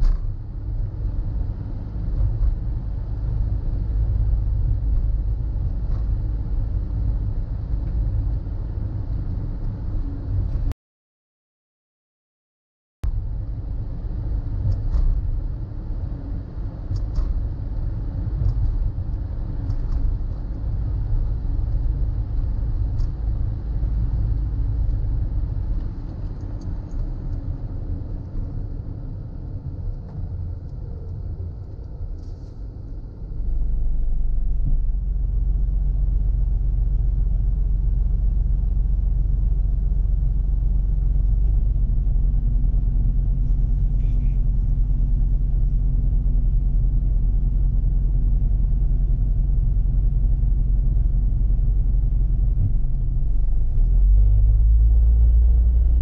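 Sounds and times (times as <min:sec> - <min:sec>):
car engine and road rumble: 0:00.0 - 0:10.7, 0:13.1 - 0:56.0.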